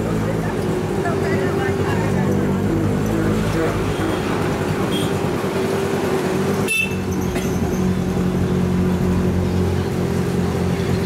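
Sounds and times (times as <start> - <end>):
street noise: 0.0 - 11.0
vehicle engine running: 0.0 - 11.0.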